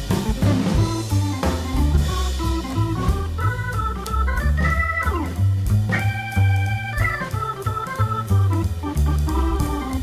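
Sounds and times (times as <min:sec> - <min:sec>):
instrumental keyboard music: 0:00.0 - 0:10.0.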